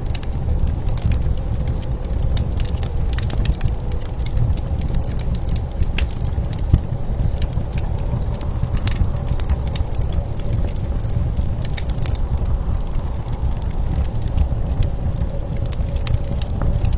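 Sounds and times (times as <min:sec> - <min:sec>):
blizzard wind rumble: 0:00.0 - 0:16.9
wood fire crackling and popping: 0:00.0 - 0:16.9.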